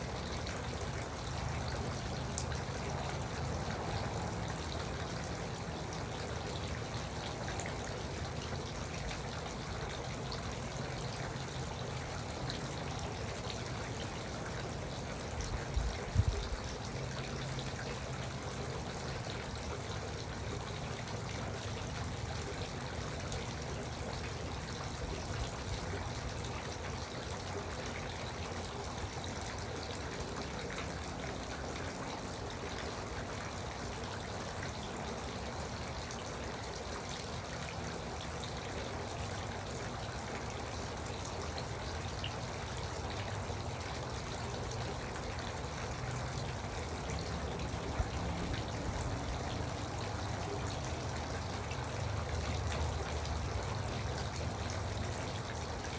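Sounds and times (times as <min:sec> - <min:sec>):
fountain water splashing: 0:00.0 - 0:55.9.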